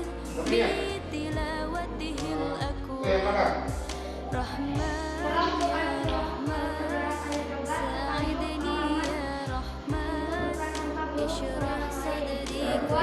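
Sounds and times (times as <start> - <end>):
light percussion: 0.0 - 13.0
sustained bass notes: 0.0 - 13.0
woman singing: 0.0 - 13.0.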